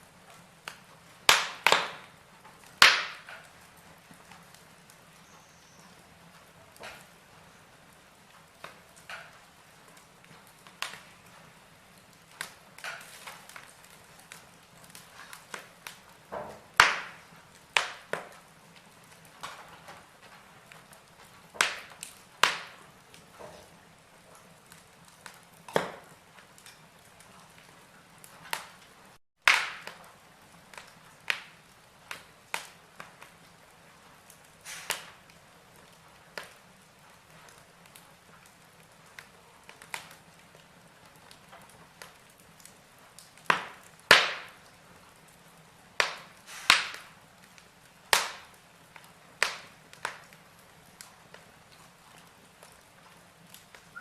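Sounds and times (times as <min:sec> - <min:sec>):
logs crackling in a fireplace: 0:00.0 - 0:54.0.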